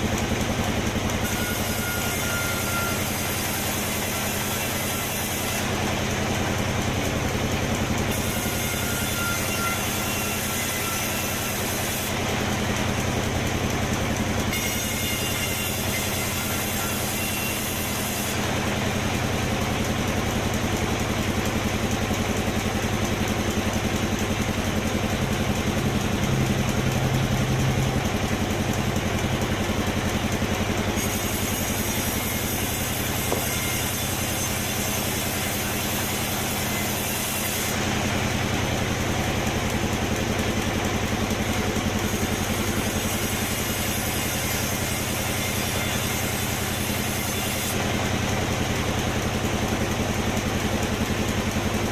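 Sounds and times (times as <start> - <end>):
sawmill machinery motor drone: 0.0 - 51.9.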